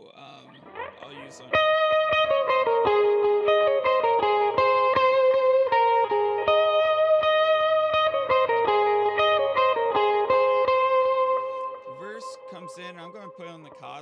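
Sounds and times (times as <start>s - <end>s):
electric guitar melody: 0.5s - 14.0s.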